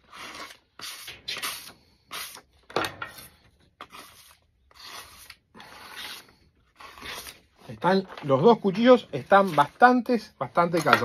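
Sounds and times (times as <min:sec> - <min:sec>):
knife scraping paper: 0:00.0 - 0:02.5, 0:03.1 - 0:09.9.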